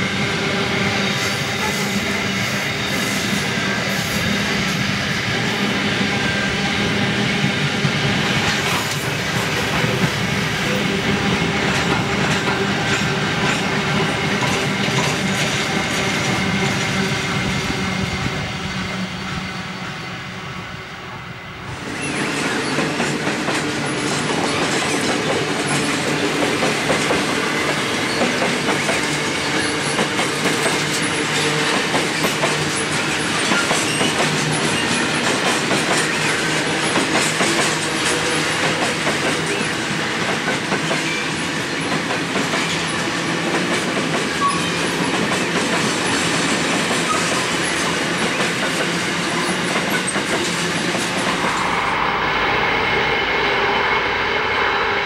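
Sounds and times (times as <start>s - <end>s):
train wheels clattering over rails: 0.8s - 18.4s, 21.8s - 51.8s.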